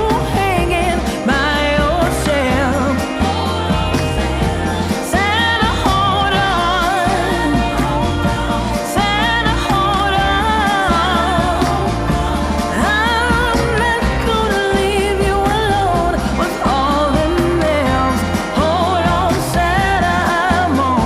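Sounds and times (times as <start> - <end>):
pop song with singing: 0.0 - 21.0
steady bass beat: 0.0 - 21.0.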